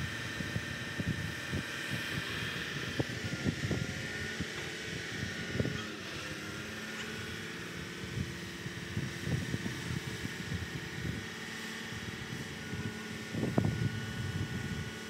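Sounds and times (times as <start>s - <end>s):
wind gusting on microphone: 0.0s - 5.8s, 6.5s - 15.0s
crane engine running: 0.0s - 15.0s.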